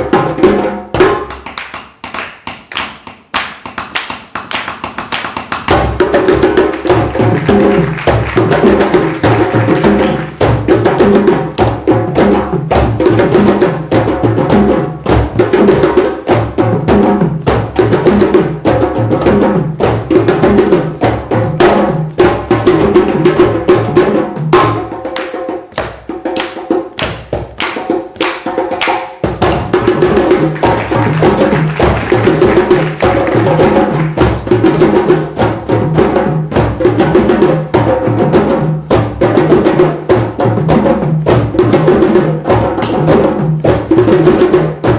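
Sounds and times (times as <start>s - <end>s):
drumming group playing: 0.0s - 44.9s
wood-block strikes: 0.0s - 44.9s.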